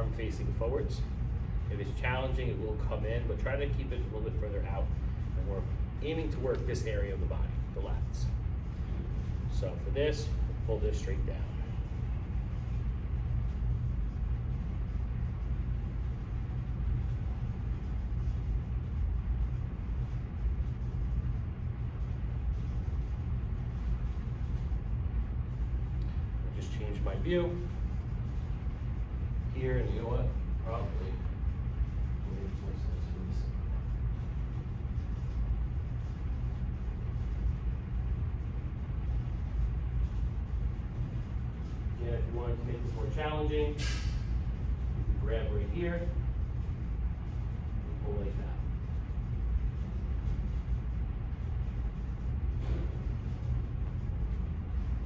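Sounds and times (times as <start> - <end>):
low background rumble: 0.0 - 55.0.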